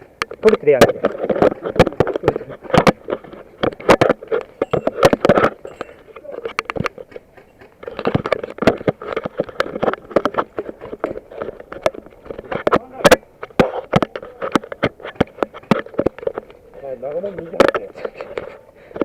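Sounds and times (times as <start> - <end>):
rustling movement: 0.0 - 19.0.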